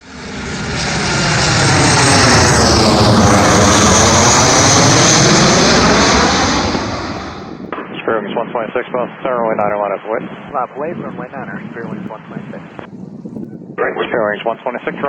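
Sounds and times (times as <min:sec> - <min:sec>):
aircraft engines passing loud: 0:00.0 - 0:15.0.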